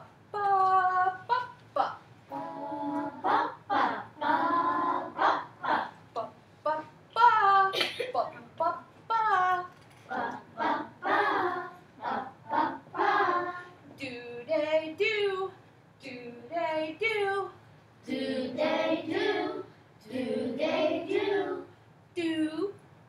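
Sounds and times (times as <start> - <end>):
woman and children singing: 0.4 - 22.7.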